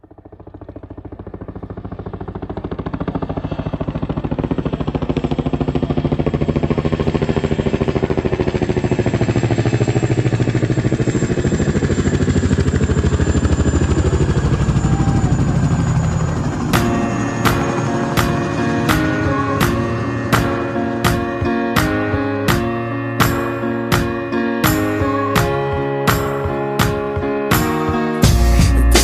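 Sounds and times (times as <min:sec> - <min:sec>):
propeller aircraft engine throbbing: 0:00.0 - 0:29.0.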